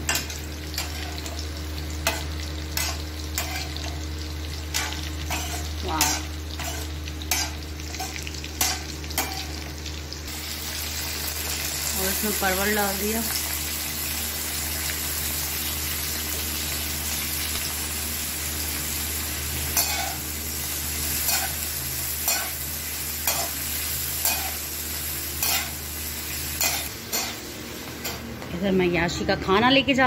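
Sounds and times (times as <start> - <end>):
vegetables sizzling in hot oil: 0.0 - 28.3.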